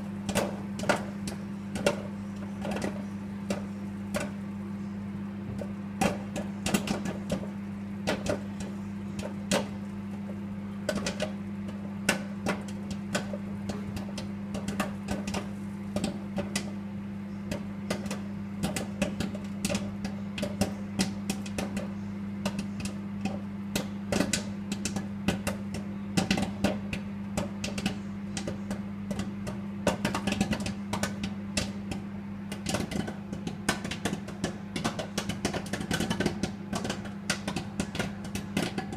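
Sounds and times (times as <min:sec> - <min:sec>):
microwave oven humming: 0:00.0 - 0:38.9
popcorn popping: 0:00.0 - 0:38.9.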